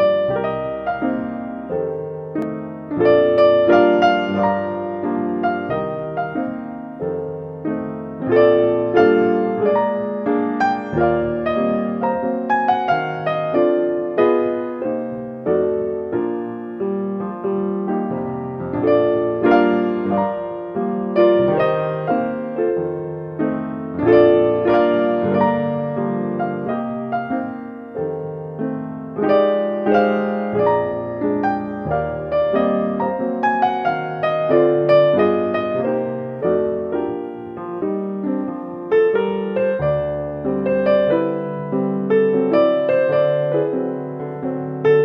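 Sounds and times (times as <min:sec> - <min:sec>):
solo piano piece: 0:00.0 - 0:45.0.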